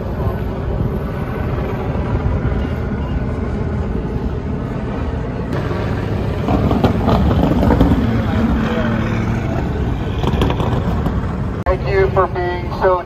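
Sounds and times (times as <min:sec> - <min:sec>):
car engines rumbling: 0:00.0 - 0:13.0.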